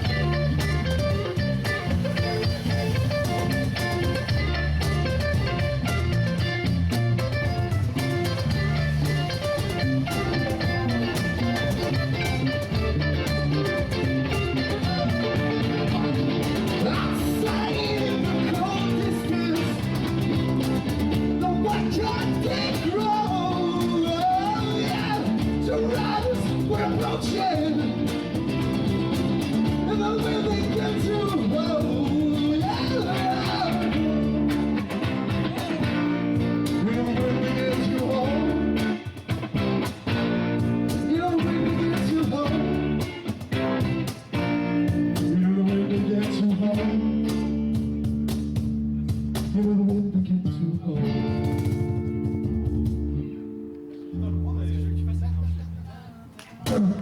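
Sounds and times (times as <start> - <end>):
electric guitar lead: 0.0 - 50.1, 50.8 - 56.4
bass and drums: 0.0 - 57.0.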